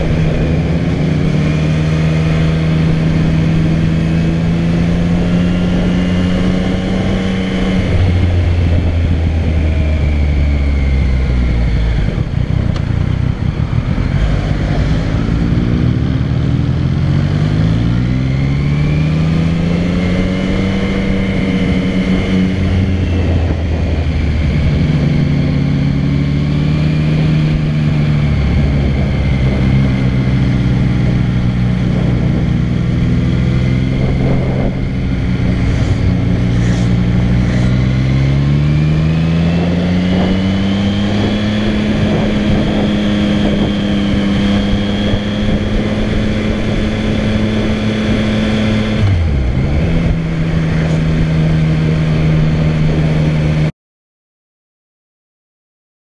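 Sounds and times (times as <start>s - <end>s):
motorcycle engine running: 0.0s - 53.7s.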